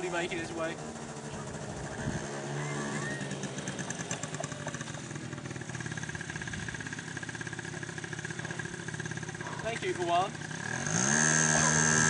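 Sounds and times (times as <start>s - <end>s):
scooter engine puttering: 0.0s - 12.0s.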